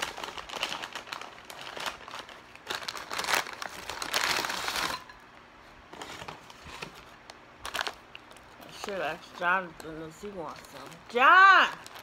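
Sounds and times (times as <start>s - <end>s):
paper bag crinkling: 0.0s - 5.1s, 5.9s - 12.0s.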